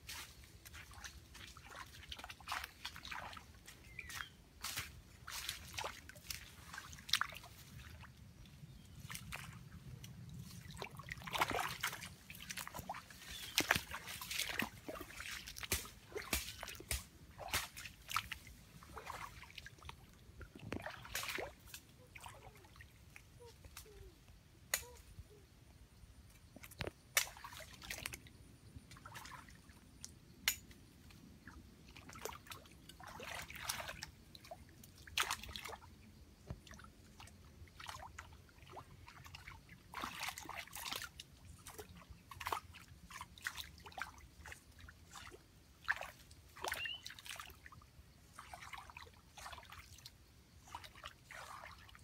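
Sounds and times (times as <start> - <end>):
water splashing and sloshing: 0.0 - 25.5, 26.2 - 52.0.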